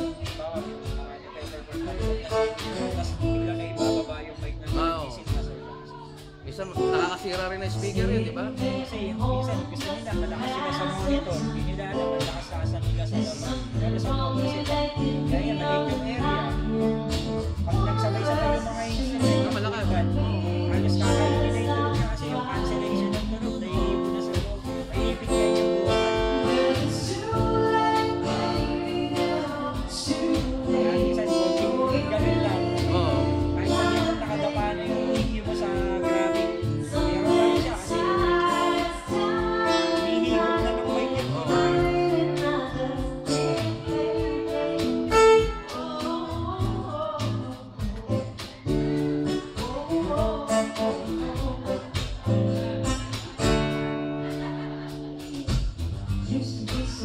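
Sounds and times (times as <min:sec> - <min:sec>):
guitar: 0:00.0 - 0:57.0
percussion beat: 0:00.0 - 0:57.0
woman singing into microphone: 0:07.7 - 0:57.0.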